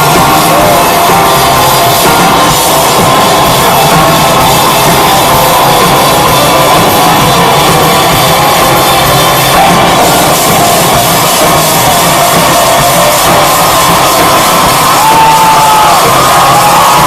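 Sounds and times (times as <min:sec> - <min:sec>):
drums: 0:00.0 - 0:17.0
live folk-rock band playing: 0:00.0 - 0:17.0.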